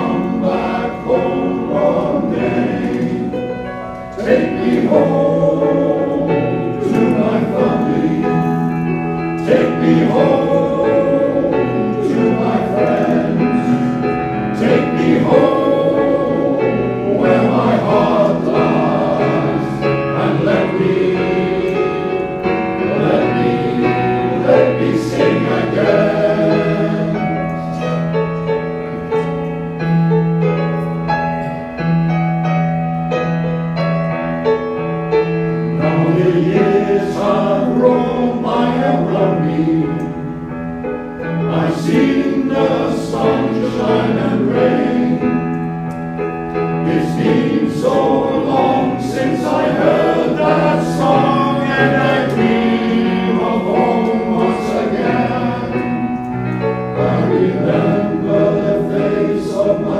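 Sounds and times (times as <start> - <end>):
male voice choir singing: 0.0 - 28.0, 35.8 - 40.3, 41.2 - 45.6, 46.8 - 59.9.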